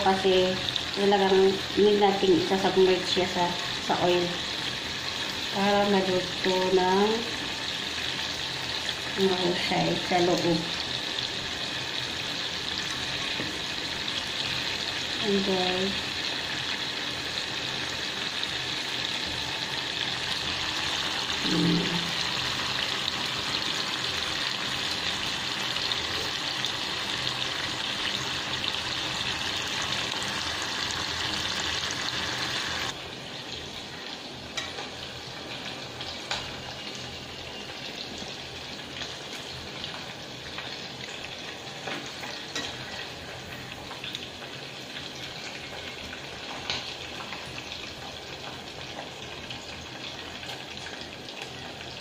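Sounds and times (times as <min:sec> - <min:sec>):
liver deep-frying in hot oil: 0:00.0 - 0:52.0.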